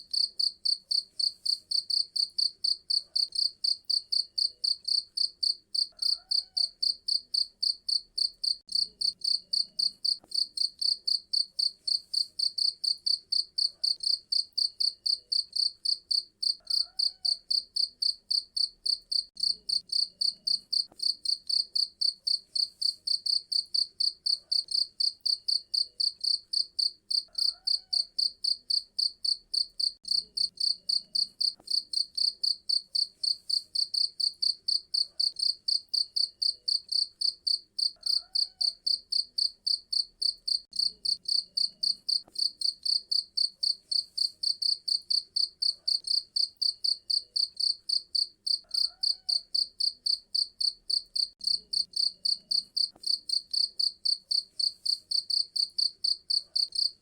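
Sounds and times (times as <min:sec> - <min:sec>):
cricket chirping: 0:00.1 - 0:57.0.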